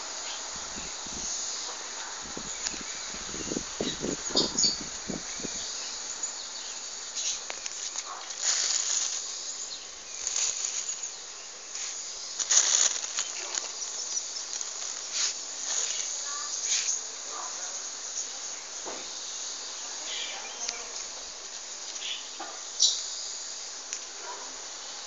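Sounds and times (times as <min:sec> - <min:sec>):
high hissing noise: 0:00.0 - 0:25.0
insects chirping: 0:00.0 - 0:25.0.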